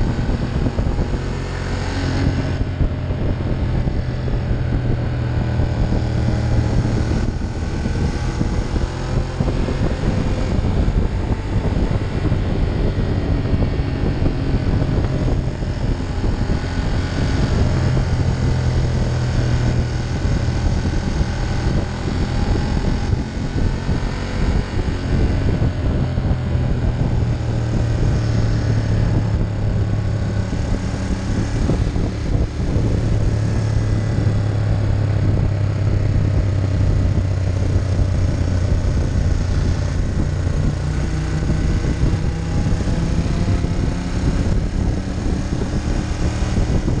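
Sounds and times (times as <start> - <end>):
motorcycle engine cruising: 0.0 - 47.0
wind rushing over microphone: 0.0 - 47.0.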